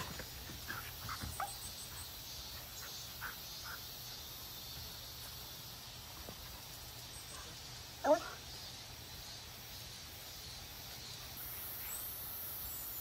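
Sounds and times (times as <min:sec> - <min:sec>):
faint chirps: 0:00.0 - 0:13.0
high insect hiss: 0:00.0 - 0:13.0.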